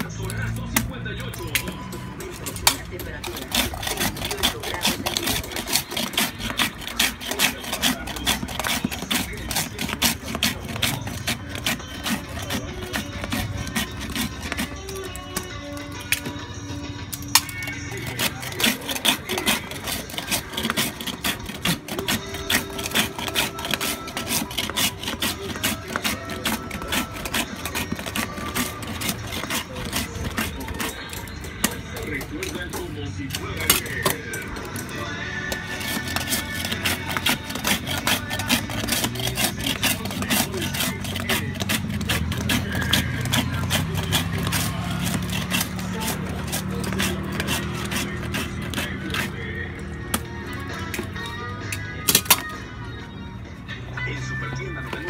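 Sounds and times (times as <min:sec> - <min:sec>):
ice shaver rasping on ice: 0:00.0 - 0:52.9, 0:54.1 - 0:55.0.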